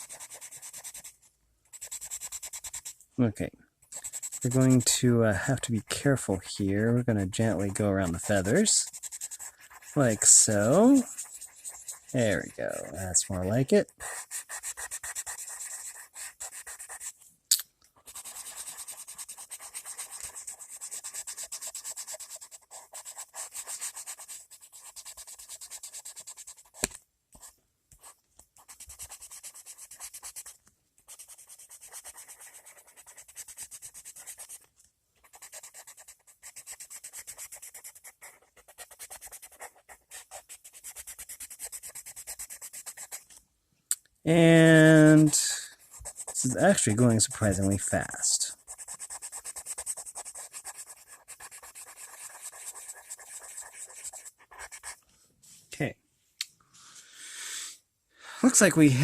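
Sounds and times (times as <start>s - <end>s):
pencil shading on paper: 0.0s - 3.0s, 3.9s - 5.6s, 6.2s - 17.2s, 18.0s - 43.4s, 44.3s - 55.0s.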